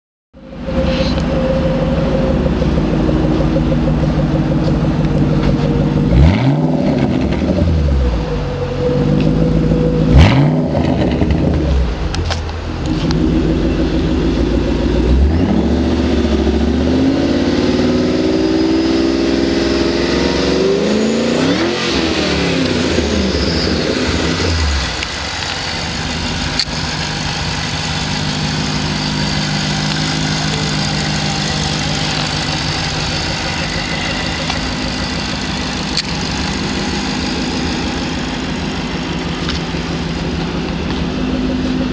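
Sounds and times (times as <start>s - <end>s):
car engine idling and revving: 0.4s - 41.9s.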